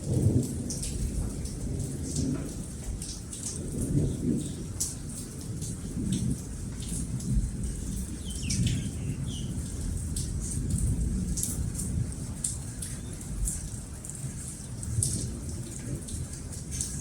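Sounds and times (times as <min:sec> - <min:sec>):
low thunder rumbling: 0:00.0 - 0:17.0
rain pattering: 0:00.0 - 0:17.0.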